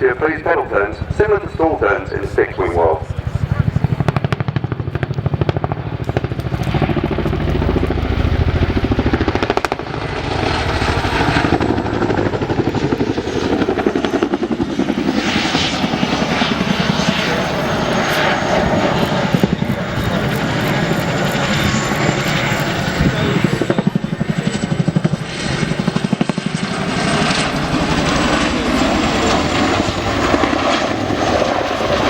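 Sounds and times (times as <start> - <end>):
helicopter blade chop: 0.0 - 32.0
high turbine whine: 0.0 - 32.0.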